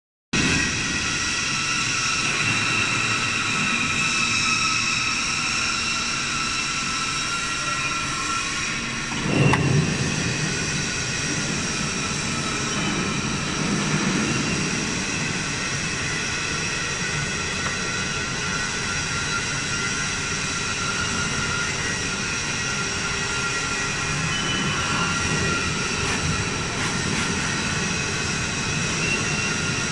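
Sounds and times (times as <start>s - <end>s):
machinery humming and whining: 0.4s - 29.9s.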